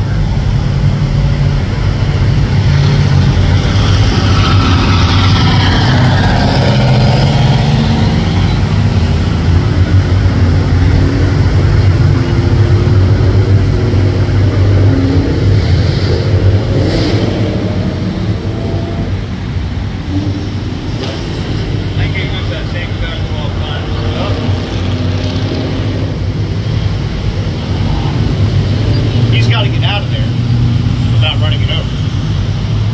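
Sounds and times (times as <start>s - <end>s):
cars driving past: 0.0s - 32.9s.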